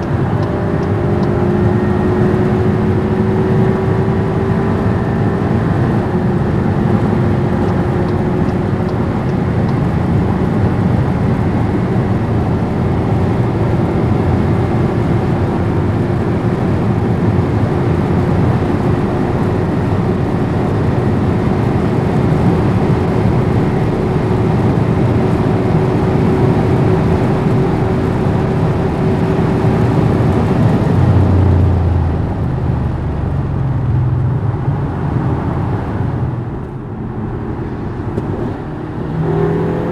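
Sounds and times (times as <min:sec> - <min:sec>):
car driving at high speed: 0:00.0 - 0:39.9.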